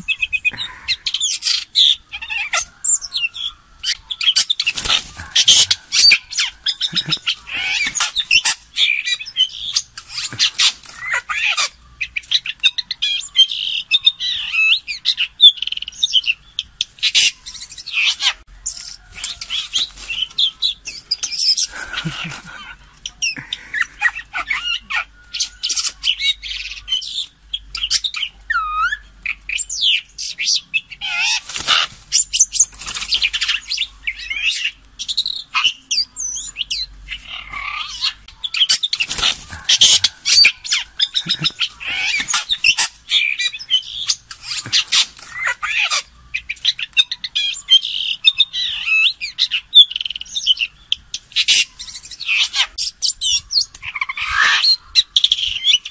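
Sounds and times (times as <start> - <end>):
magpie calling: 0.0 - 55.9.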